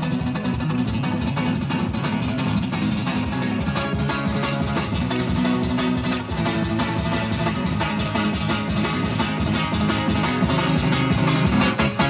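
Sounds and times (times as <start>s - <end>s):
fast flamenco guitar strumming: 0.0s - 12.0s.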